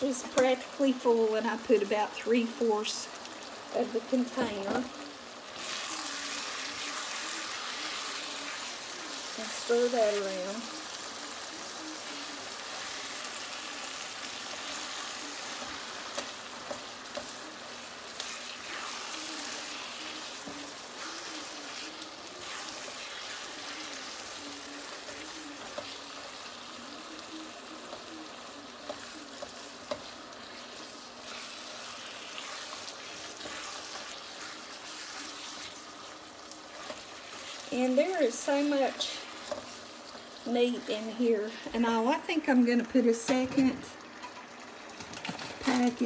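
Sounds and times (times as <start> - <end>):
meat sizzling in a pan: 0.0 - 46.0.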